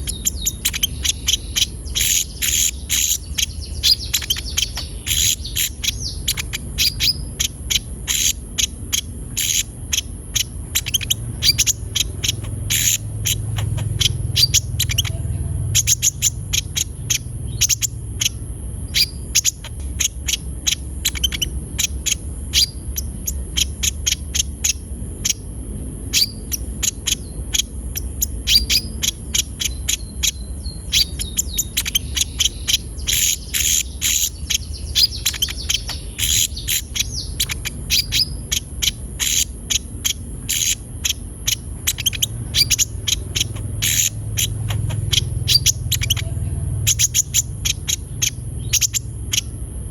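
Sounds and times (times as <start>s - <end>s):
bird singing high chips: 0.0s - 49.9s.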